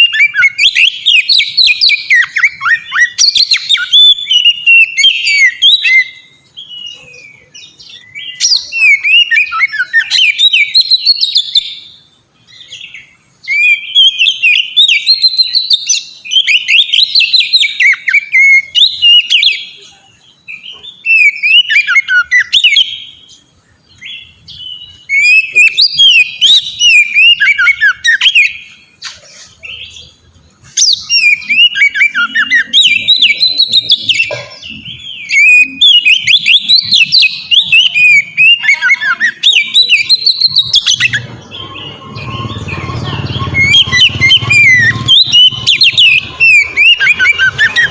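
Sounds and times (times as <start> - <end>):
songbird whistling and chattering: 0.0 - 47.9.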